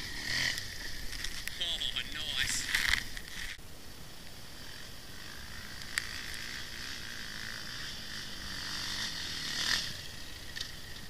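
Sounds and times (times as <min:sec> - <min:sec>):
distant dirt bike engines: 0:00.0 - 0:11.0.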